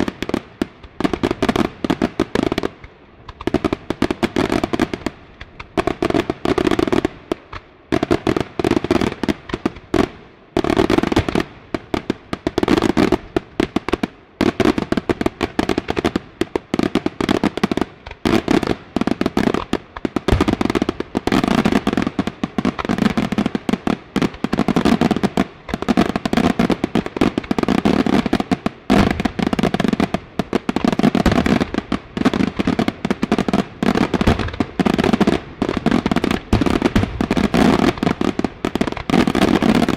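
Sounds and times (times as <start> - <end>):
fireworks bangs and cracks: 0.0 - 39.9.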